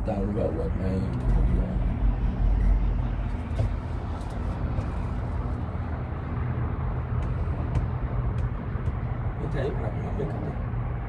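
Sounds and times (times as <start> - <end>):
cable car cabin rumble and hum: 0.0 - 11.0.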